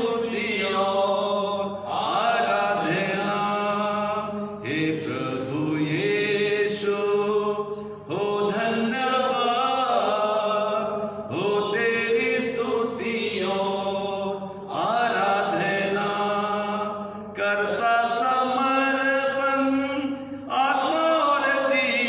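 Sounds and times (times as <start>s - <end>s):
man singing a slow hymn: 0.0s - 22.0s.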